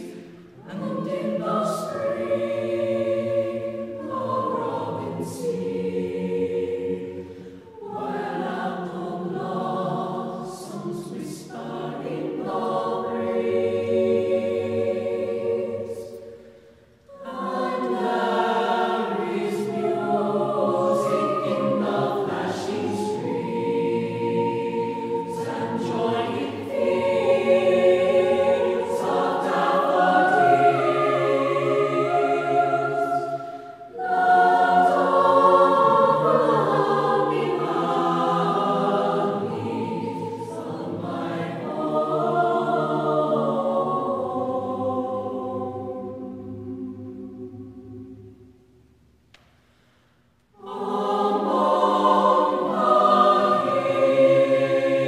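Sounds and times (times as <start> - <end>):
choir singing slow harmony: 0.0 - 55.0.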